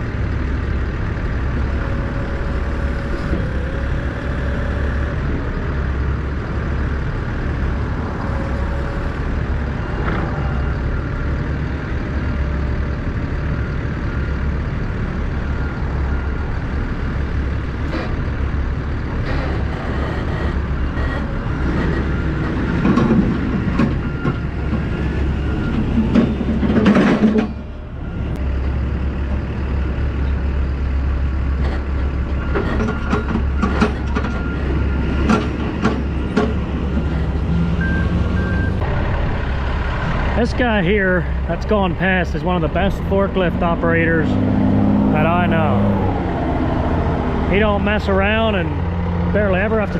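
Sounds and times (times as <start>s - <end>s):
diesel engine idling: 0.0s - 49.9s
machinery noise: 0.0s - 49.9s.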